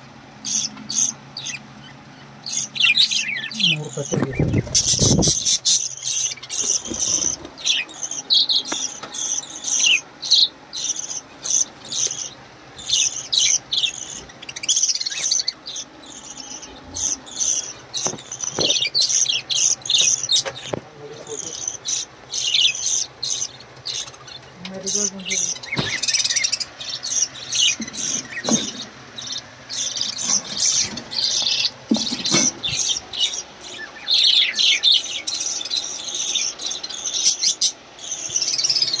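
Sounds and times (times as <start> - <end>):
budgerigars chirping: 0.4 - 39.0.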